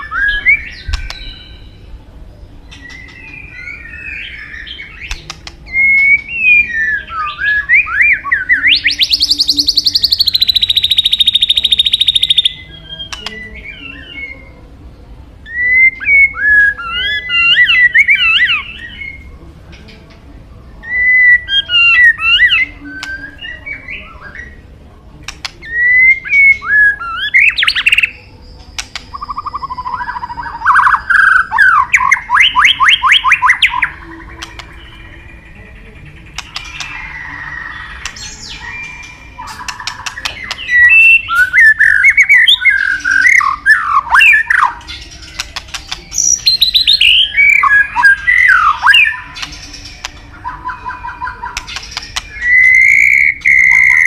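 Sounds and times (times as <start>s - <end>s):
bird singing whistled phrases: 0.0s - 1.8s, 2.7s - 14.5s, 15.4s - 19.3s, 20.8s - 24.6s, 25.6s - 35.6s, 36.3s - 54.0s.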